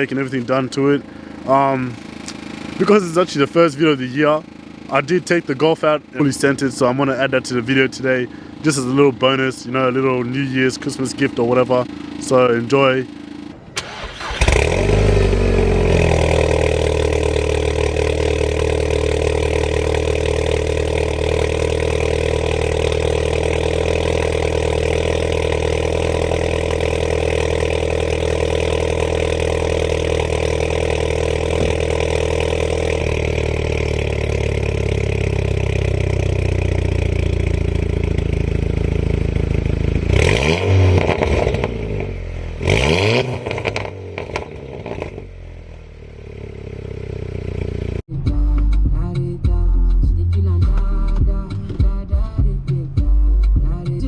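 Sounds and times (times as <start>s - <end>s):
car engine starting and idling: 0.0s - 54.0s
engine revving: 1.2s - 51.7s.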